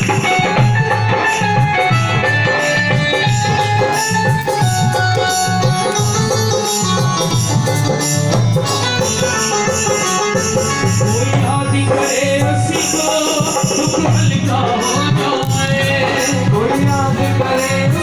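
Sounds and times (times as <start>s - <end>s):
harmonium playing chords: 0.0s - 18.0s
jingling hand percussion: 0.0s - 18.0s.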